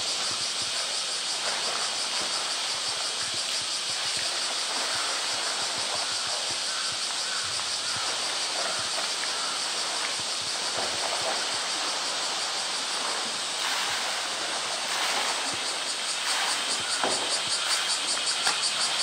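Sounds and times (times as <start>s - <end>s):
high insect drone: 0.0s - 19.0s
water splashing and sloshing: 0.0s - 19.0s.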